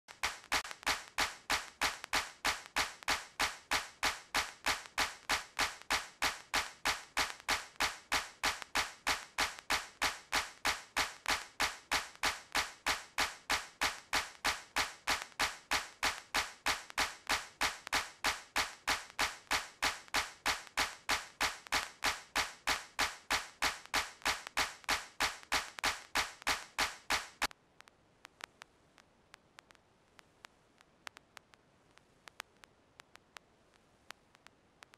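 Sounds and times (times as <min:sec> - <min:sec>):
sharp clicking: 0:00.1 - 0:28.7, 0:31.0 - 0:33.2
faint ticks: 0:00.1 - 0:34.9.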